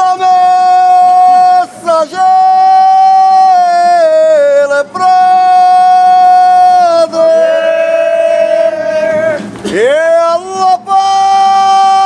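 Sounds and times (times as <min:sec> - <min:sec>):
men singing a hymn: 0:00.0 - 0:12.0.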